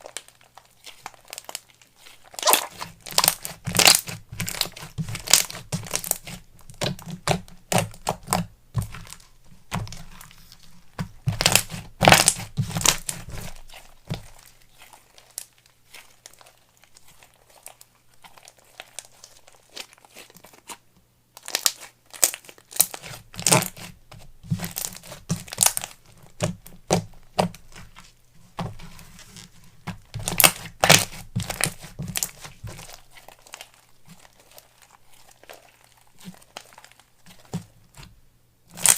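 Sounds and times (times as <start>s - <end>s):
slime crackling by hand: 0.0s - 38.9s.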